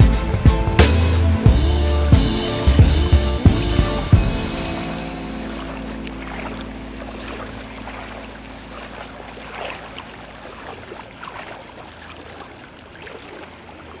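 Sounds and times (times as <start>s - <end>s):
floodwater rushing and splashing: 0.0s - 14.0s.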